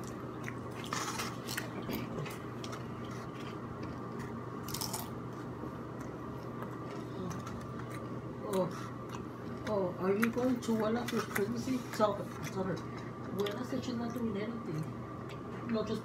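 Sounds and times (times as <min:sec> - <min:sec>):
crusty bread crunching: 0:00.0 - 0:12.8
steady low hum: 0:00.0 - 0:16.0.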